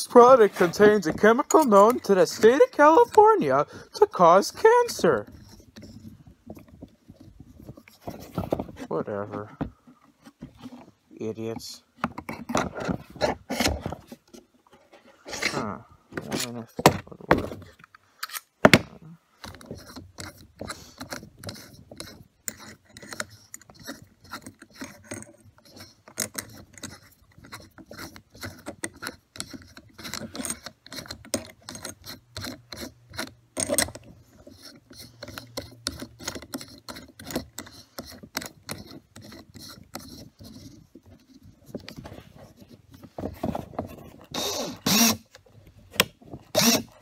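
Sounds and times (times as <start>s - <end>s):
small hard parts clicking and rattling: 0.0s - 18.7s, 19.3s - 47.0s.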